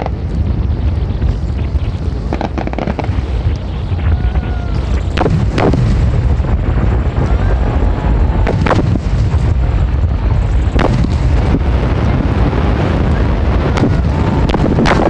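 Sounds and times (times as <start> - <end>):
fireworks booms rumbling: 0.0 - 15.0
sharp fireworks cracks: 0.0 - 15.0.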